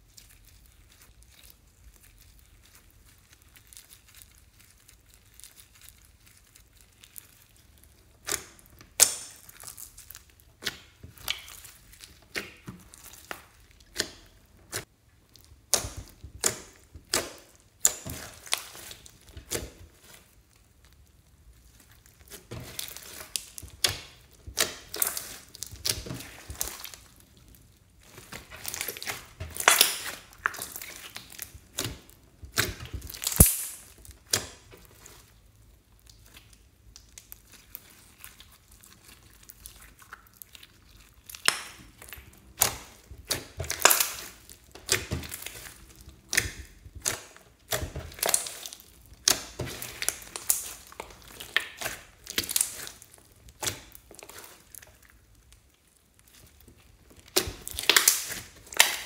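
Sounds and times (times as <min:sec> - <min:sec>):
beads crackling and popping: 0:00.0 - 0:59.0
slime squishing: 0:00.0 - 0:59.0.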